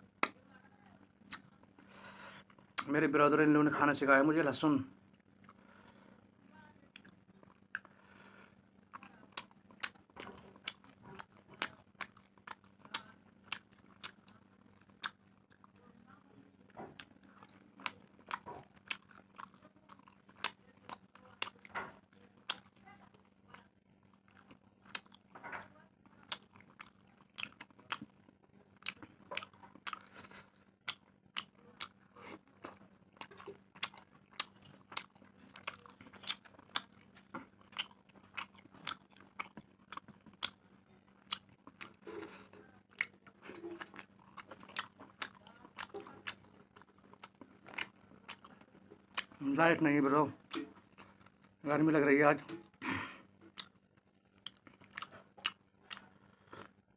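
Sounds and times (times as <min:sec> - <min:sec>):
faint low hum: 0:00.0 - 0:56.9
person chewing food: 0:00.1 - 0:00.5, 0:01.1 - 0:03.0, 0:05.0 - 0:51.6, 0:52.4 - 0:56.9.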